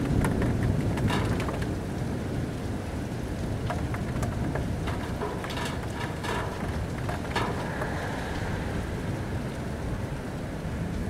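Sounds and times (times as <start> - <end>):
low continuous rumble: 0.0 - 11.0
rain falling: 0.0 - 11.0.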